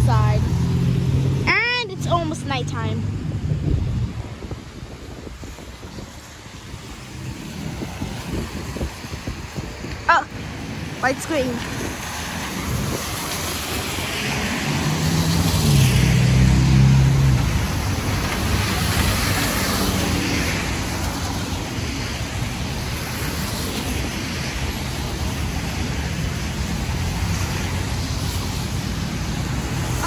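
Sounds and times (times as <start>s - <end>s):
car passing on wet road: 0.0s - 30.0s
road noise: 0.0s - 30.0s.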